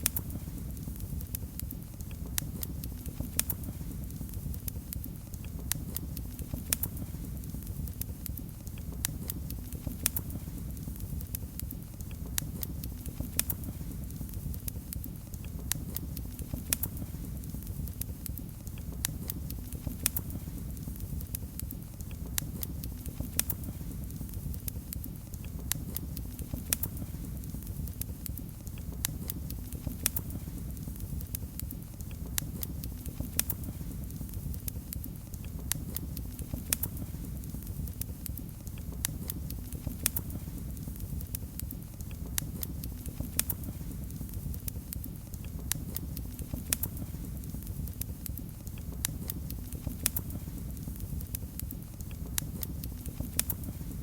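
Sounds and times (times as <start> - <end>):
fire popping and snapping: 0.0 - 54.0
wood fire crackling: 0.0 - 54.0.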